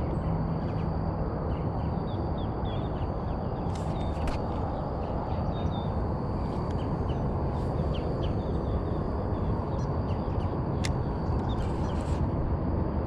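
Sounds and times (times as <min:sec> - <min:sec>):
thin high whine: 0:00.0 - 0:13.0.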